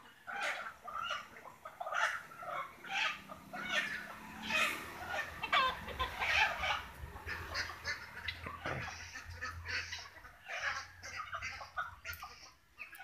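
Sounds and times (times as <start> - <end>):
poultry clucking: 0.0 - 13.0.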